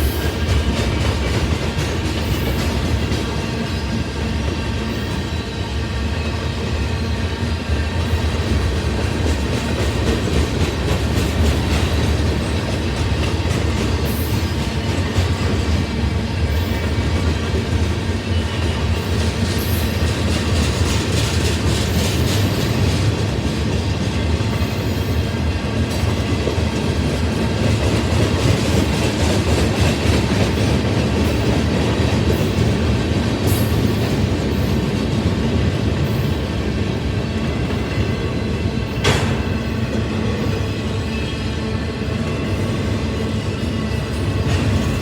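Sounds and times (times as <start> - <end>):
freight train cars rumbling past: 0.0 - 45.0.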